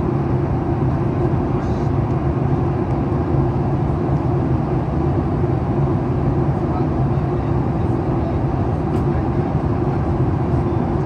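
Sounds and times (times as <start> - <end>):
airplane cabin airflow rush: 0.0 - 11.0
jet engines humming: 0.0 - 11.0.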